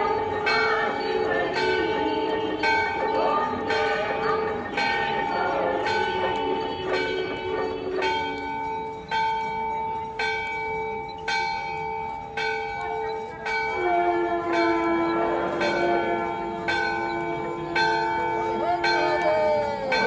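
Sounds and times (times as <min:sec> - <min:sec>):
temple bell ringing: 0:00.0 - 0:20.0.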